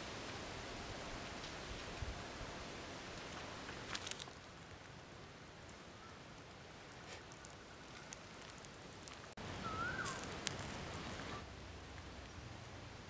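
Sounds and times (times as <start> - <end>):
charcoal fire hissing and crackling: 0.0 - 13.0.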